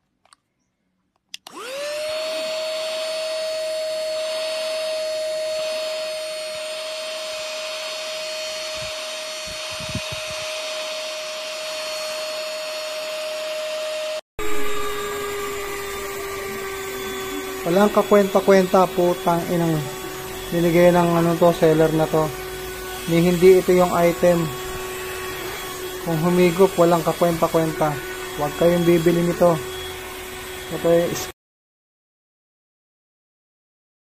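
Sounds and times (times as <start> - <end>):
handheld vacuum cleaner whining: 1.4 - 31.4.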